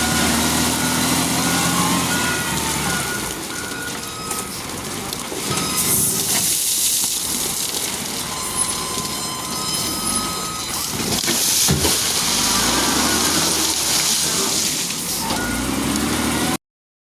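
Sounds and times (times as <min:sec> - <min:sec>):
wheel loader diesel engine: 0:00.0 - 0:16.6.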